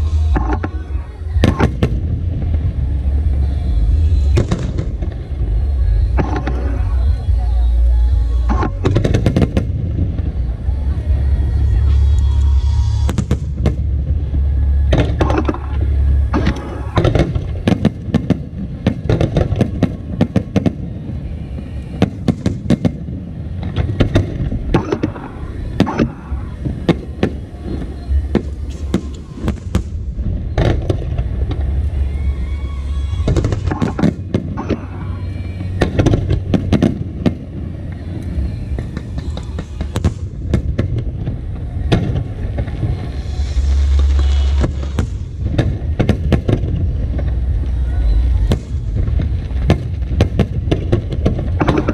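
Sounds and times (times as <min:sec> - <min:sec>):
fireworks bangs and crackles: 0:00.0 - 0:51.9
low rumble: 0:00.0 - 0:51.9.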